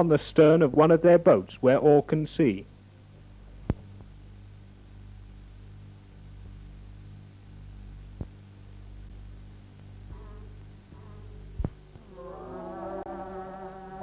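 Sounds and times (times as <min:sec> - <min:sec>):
low electrical hum: 0:00.0 - 0:14.0
tape hiss: 0:00.0 - 0:14.0.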